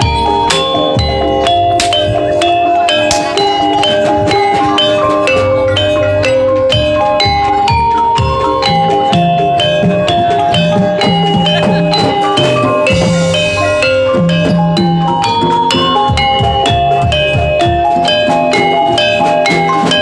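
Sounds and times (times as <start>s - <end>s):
mallet percussion melody: 0.0s - 20.0s.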